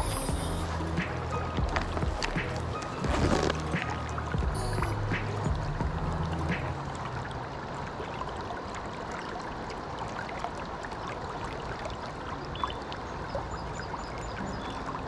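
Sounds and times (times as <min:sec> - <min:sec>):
river water rushing and lapping: 0:00.0 - 0:15.0.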